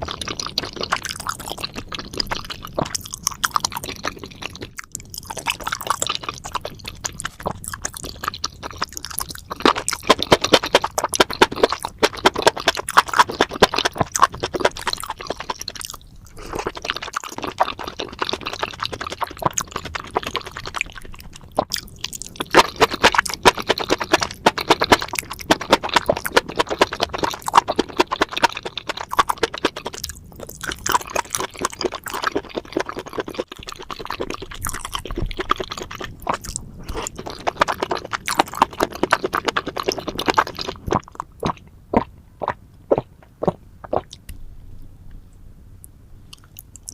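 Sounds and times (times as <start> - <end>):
person chewing food: 0.0 - 44.4, 46.3 - 46.9.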